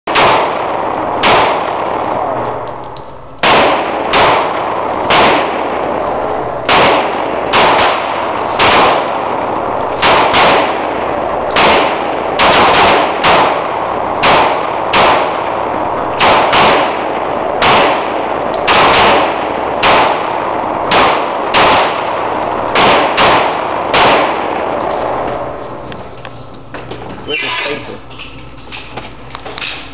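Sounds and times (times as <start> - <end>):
pistol shots echoing indoors: 0.1 - 25.9.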